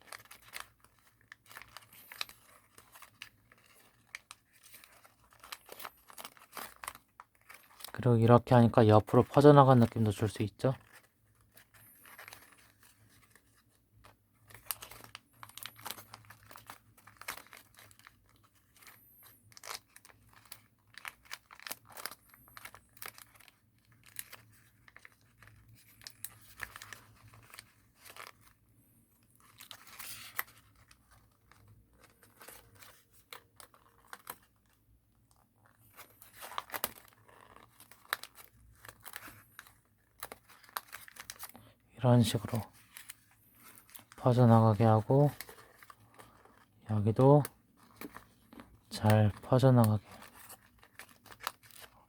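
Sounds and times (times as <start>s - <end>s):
paper crinkling: 0.0s - 52.0s.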